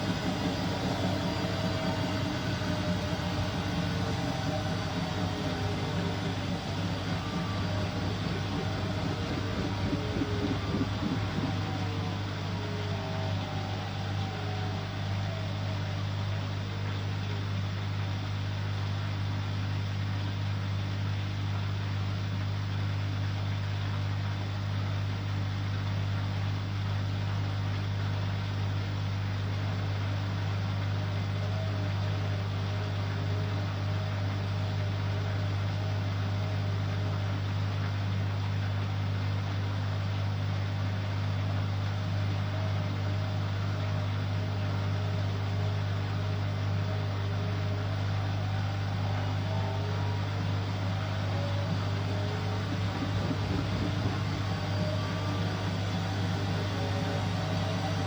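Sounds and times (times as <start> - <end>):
faint wavering whine: 0.0 - 21.4, 28.0 - 58.0
washing machine humming: 0.0 - 58.0.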